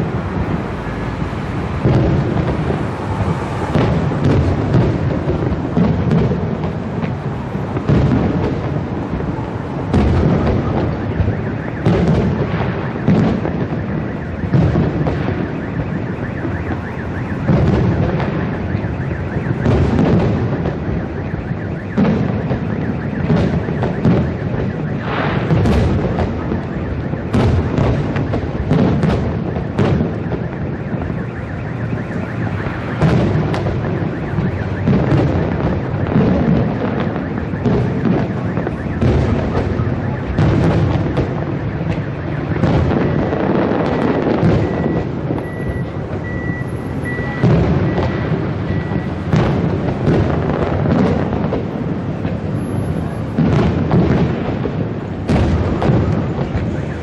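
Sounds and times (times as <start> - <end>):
firework rumble and crackle: 0.0 - 57.0
firework shells booming: 0.0 - 57.0.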